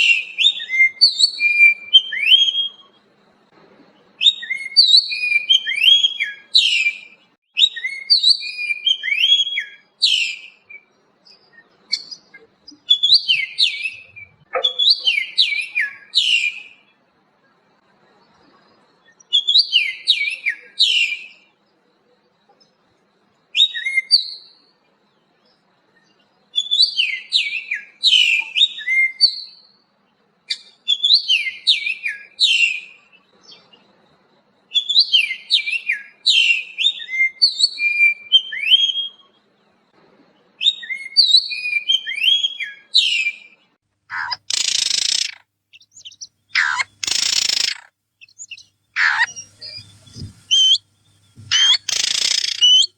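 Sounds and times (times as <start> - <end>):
small songbird singing: 0.0 - 39.9, 40.6 - 52.9.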